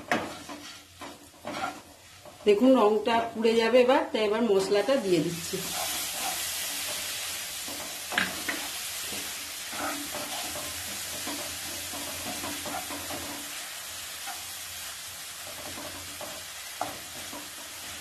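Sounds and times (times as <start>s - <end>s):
wooden spatula scraping a pan: 0.0s - 2.7s, 5.4s - 18.0s
onions frying in hot oil: 0.0s - 18.0s.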